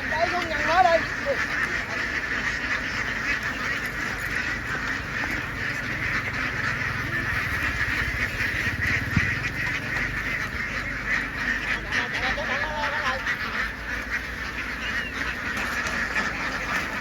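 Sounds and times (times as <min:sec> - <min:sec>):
flock of ducks quacking: 0:00.0 - 0:17.0.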